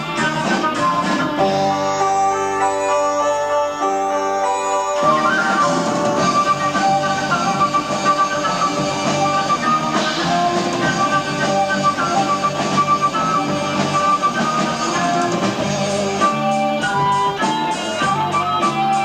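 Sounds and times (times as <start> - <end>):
electric guitar: 0.0 - 19.0
rock band playing: 0.0 - 19.0.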